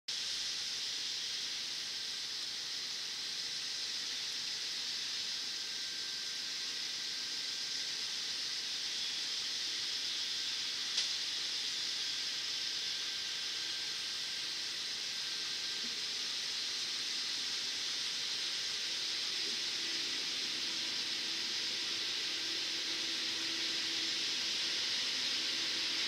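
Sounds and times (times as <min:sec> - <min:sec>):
steady hiss: 0:00.1 - 0:26.0.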